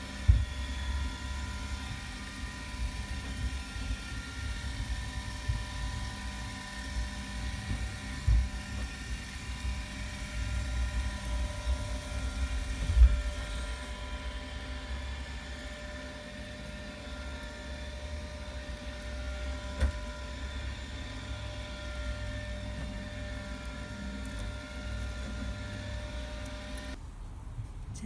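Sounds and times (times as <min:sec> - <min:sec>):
steady mechanical drone: 0:00.0 - 0:27.0.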